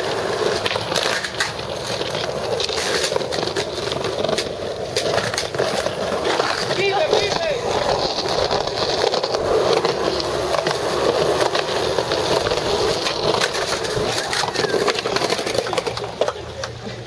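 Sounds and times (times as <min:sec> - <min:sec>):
skateboard clacking: 0:00.0 - 0:17.0
skateboard wheels rolling on concrete: 0:00.0 - 0:17.0.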